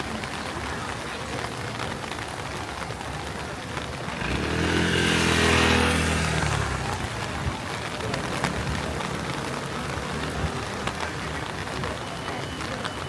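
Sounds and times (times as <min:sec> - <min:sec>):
steady rain: 0:00.0 - 0:13.0
vehicle passing on wet street: 0:00.0 - 0:13.0.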